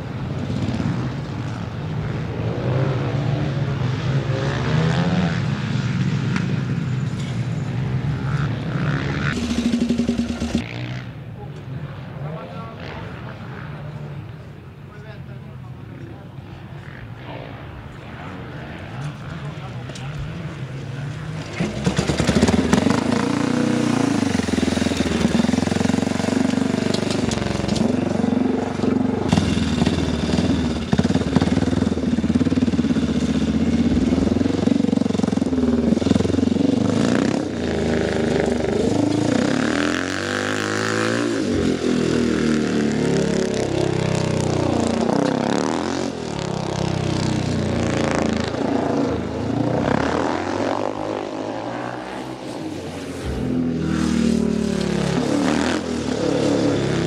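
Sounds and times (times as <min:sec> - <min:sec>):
motorcycle engine revving: 0:00.4 - 0:11.2, 0:18.6 - 0:57.0.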